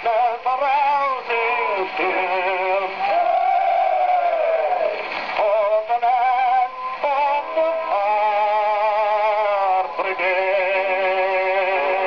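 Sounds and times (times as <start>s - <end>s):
old gramophone record melody: 0.0s - 12.0s.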